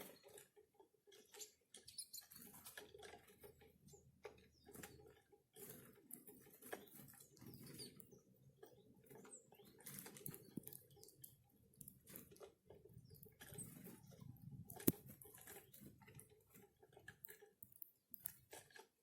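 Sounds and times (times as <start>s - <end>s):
birds tapping and nibbling: 0.0s - 19.0s.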